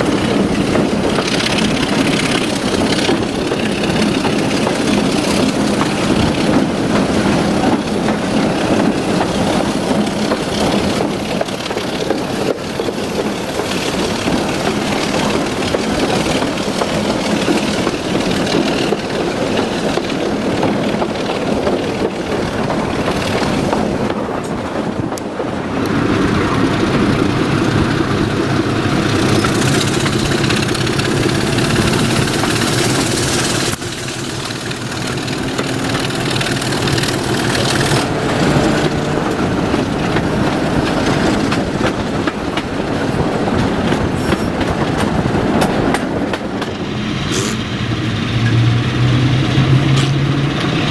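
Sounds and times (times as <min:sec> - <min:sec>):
diesel locomotive engine running: 0:00.0 - 0:50.9
train wheels clicking over rail joints: 0:00.0 - 0:50.9.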